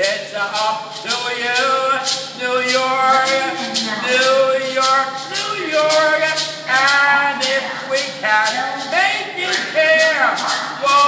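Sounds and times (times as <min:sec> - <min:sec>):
man singing long notes: 0:00.0 - 0:11.0
maracas rattling: 0:00.0 - 0:11.0.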